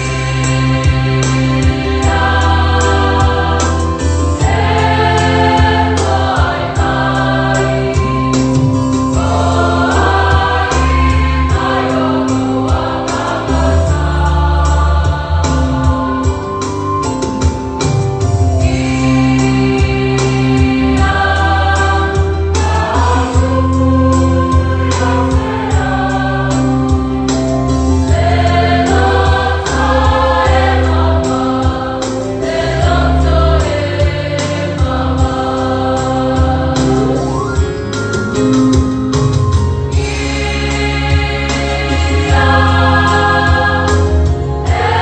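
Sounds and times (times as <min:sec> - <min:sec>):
choir singing a hymn: 0:00.0 - 0:18.0, 0:18.6 - 0:38.9, 0:39.8 - 0:45.0
low bass: 0:00.0 - 0:45.0.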